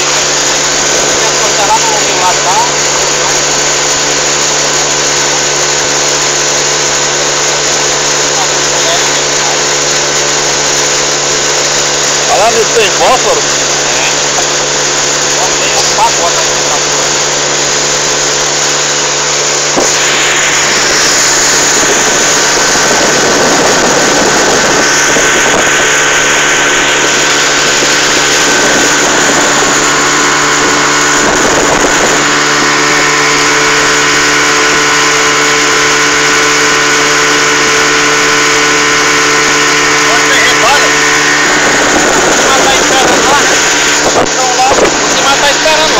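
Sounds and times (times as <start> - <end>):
motorboat engine running: 0.0 - 45.9
water rushing along hull: 0.0 - 45.9
wind: 0.0 - 45.9.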